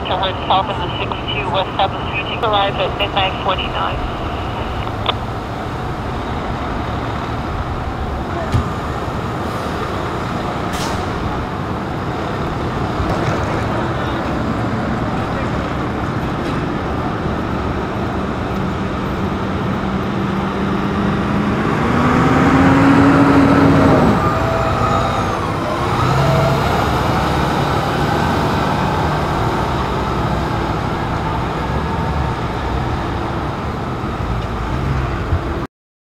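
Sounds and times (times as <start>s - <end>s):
heavy engine rumble: 0.0s - 35.6s
diesel engine revving: 3.7s - 35.6s.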